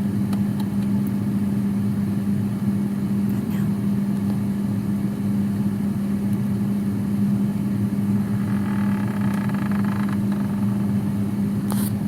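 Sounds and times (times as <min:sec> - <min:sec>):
freezer rough low hum: 0:00.0 - 0:12.0.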